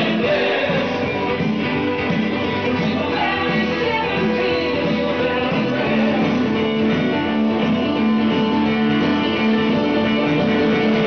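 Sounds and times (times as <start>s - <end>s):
loud guitar music: 0.0s - 11.0s.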